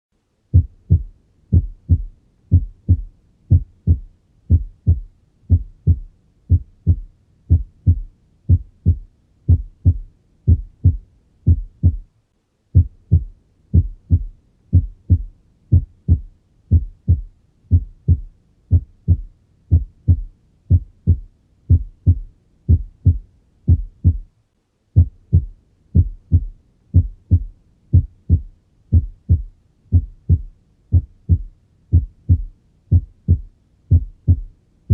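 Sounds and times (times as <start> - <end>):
heartbeat through stethoscope: 0.5 - 12.1, 12.7 - 24.3, 25.0 - 34.9.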